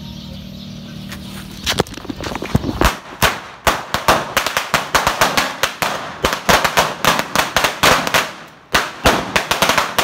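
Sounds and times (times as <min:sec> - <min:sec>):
firecracker bangs and pops: 0:01.7 - 0:10.0.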